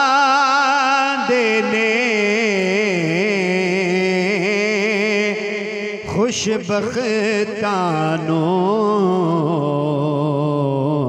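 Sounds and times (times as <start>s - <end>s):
man singing a long held note: 0.0s - 11.0s.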